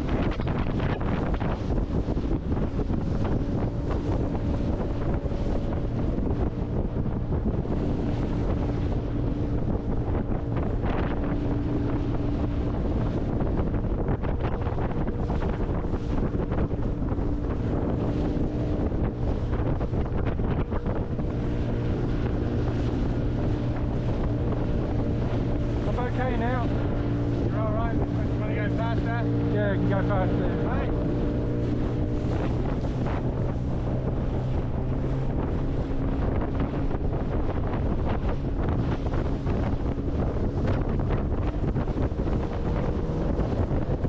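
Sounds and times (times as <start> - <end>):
boat motor running: 0.0 - 44.0
wind noise on microphone: 0.0 - 44.0.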